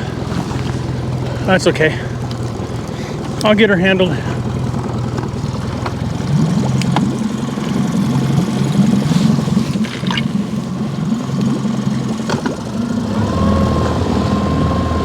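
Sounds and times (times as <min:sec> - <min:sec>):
boat motor idling: 0:00.0 - 0:15.0
water sloshing around hull: 0:00.0 - 0:15.0.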